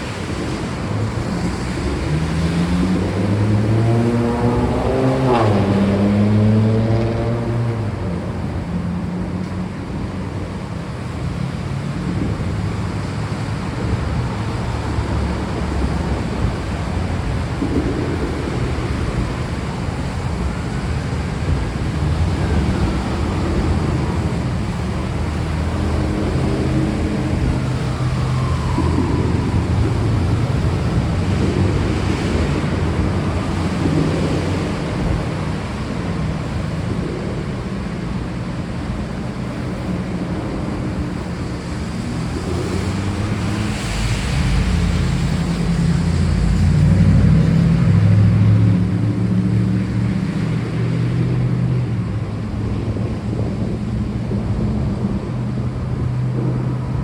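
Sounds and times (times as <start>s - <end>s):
deep rumble: 0.0s - 57.0s
heavy rain: 0.0s - 57.0s.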